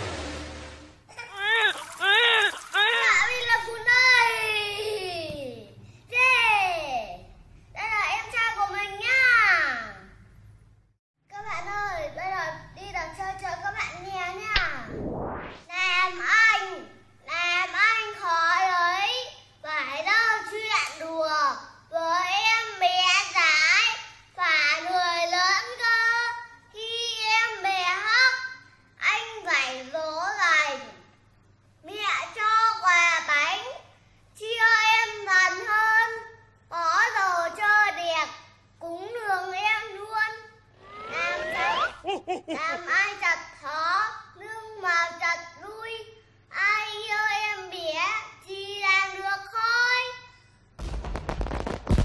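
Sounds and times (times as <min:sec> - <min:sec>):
boy reciting a poem: 0:02.6 - 0:10.2, 0:11.3 - 0:14.6, 0:15.7 - 0:31.1, 0:31.8 - 0:40.6, 0:42.4 - 0:50.4.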